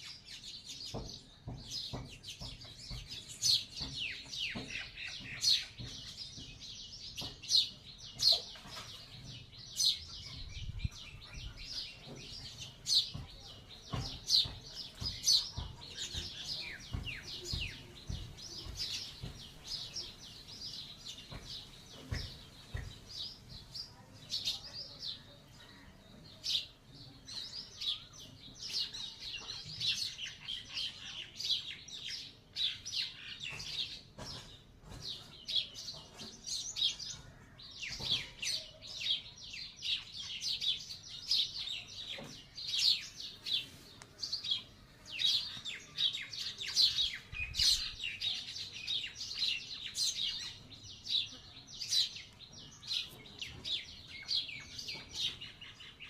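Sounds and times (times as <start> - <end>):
flock of small birds chirping: 0.0 - 56.0.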